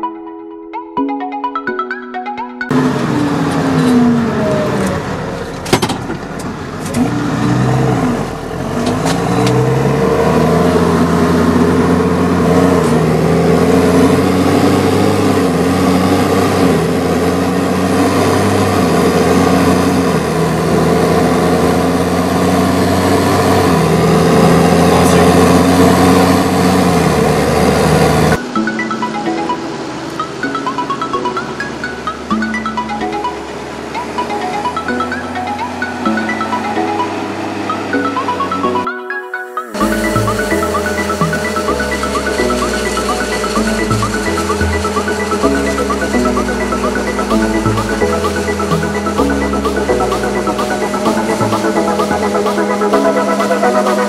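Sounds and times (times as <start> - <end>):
tractor diesel engine: 2.7 - 54.0.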